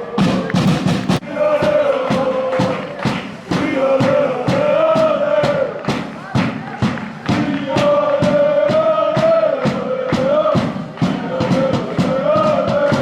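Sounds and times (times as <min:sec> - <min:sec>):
drum beating steadily: 0:00.0 - 0:13.0
supporters singing a chant: 0:00.0 - 0:13.0.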